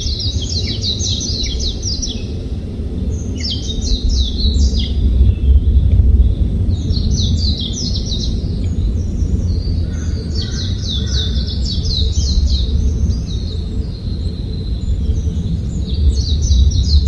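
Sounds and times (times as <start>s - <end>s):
low rumble: 0.0s - 17.0s
songbird chirping: 0.0s - 17.0s.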